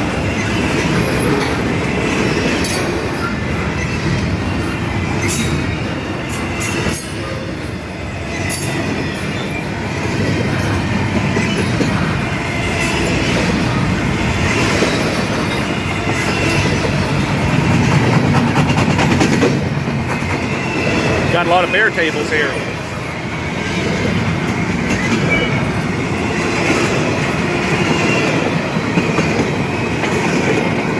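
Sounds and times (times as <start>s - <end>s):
steel wheels rumbling on rail: 0.0s - 30.9s.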